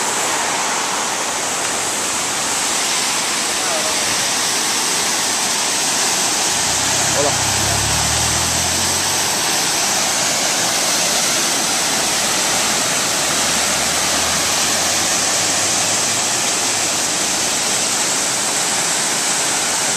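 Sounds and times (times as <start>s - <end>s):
torrent of white water rushing: 0.0s - 19.9s
waterfall: 0.0s - 19.9s.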